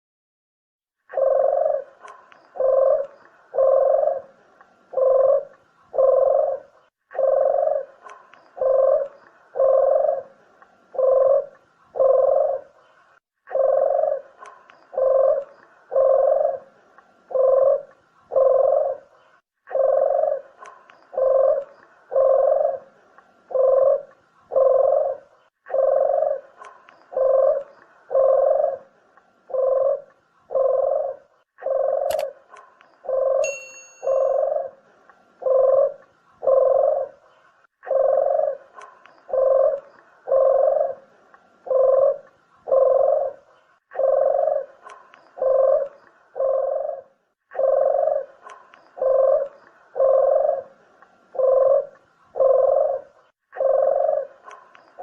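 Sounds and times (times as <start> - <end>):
dove cooing: 1.1 - 12.9, 13.5 - 55.0.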